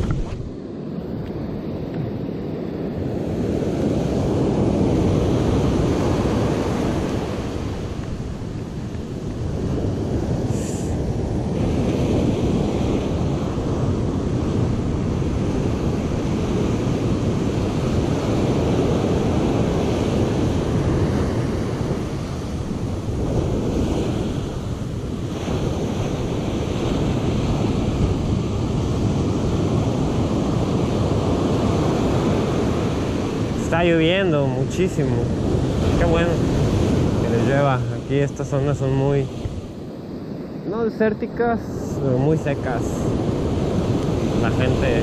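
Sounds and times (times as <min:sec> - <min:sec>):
ocean surf breaking on beach: 0:00.0 - 0:45.0
wind buffeting microphone: 0:00.0 - 0:45.0.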